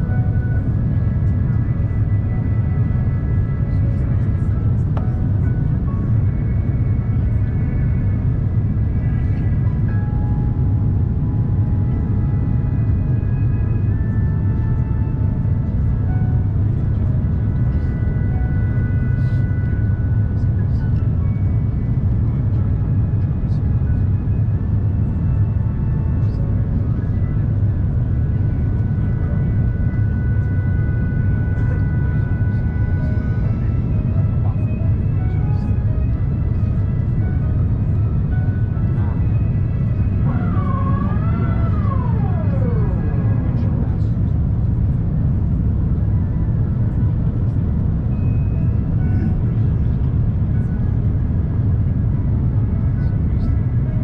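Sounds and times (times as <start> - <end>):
faint high whine: 0.0 - 54.0
low rumble of airflow and engines: 0.0 - 54.0.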